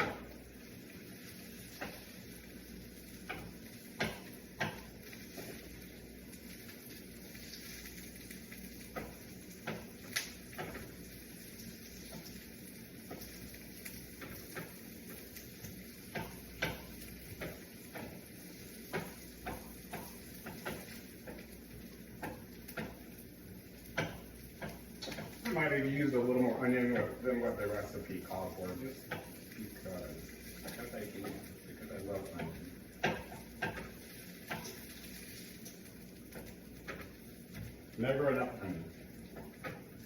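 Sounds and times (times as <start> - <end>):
onion sizzling in a frying pan: 0.0 - 40.0
utensil clicking against pan: 1.2 - 38.0, 39.0 - 40.0.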